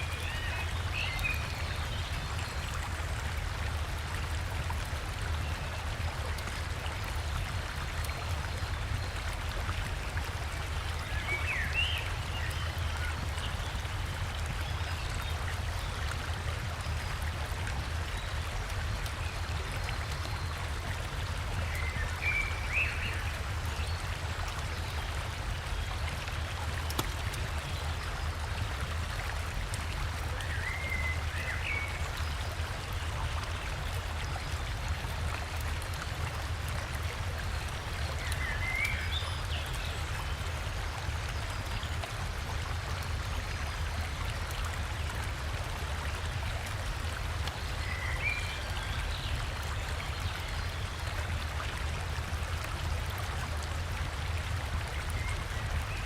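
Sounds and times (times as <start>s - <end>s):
river and small waterfall rushing: 0.0s - 56.0s.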